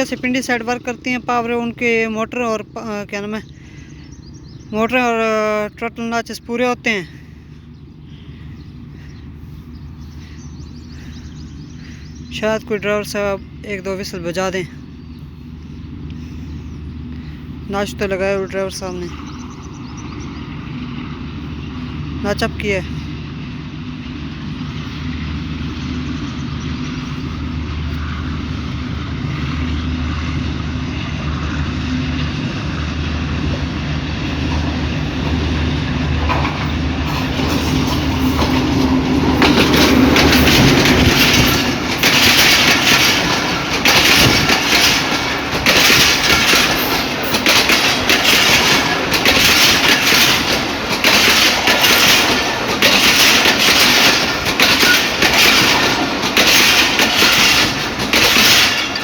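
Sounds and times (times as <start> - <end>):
locomotive engine drone: 0.0 - 59.0
train coaches rushing by: 0.0 - 59.0
wheels clacking over rail joints: 0.0 - 59.0.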